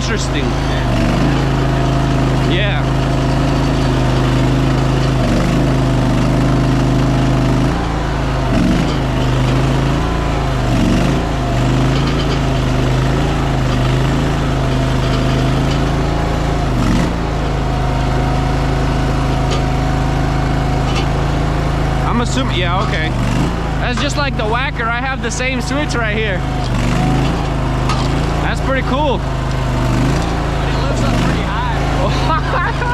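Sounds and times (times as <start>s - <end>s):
small gasoline engine at full throttle: 0.0s - 32.9s.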